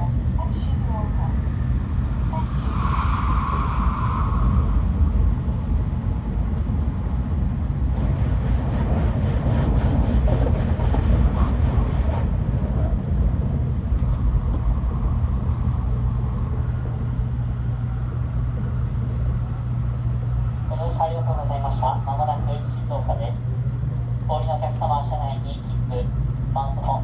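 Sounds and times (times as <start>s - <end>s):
passing train rush: 0.0s - 27.0s
train cabin rumble: 0.0s - 27.0s.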